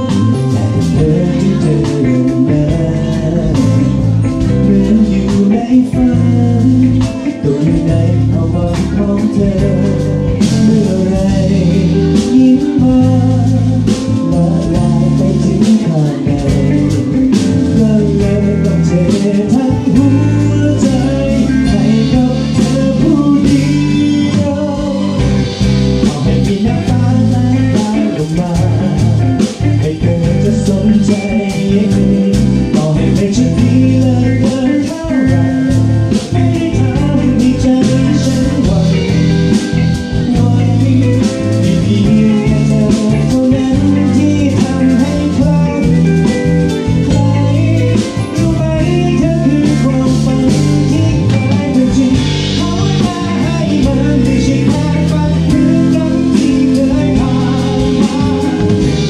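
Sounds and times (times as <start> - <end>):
bass guitar: 0.0 - 59.0
drum kit: 0.0 - 59.0
electric guitars: 0.0 - 59.0
man singing: 0.0 - 59.0.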